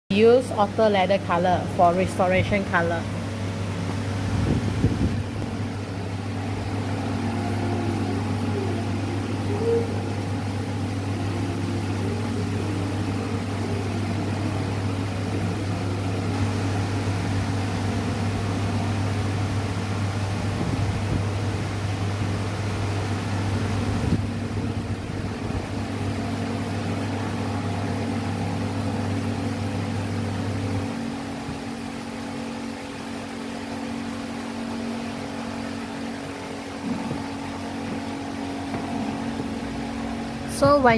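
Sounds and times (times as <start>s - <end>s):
low machine hum: 0.1s - 40.9s.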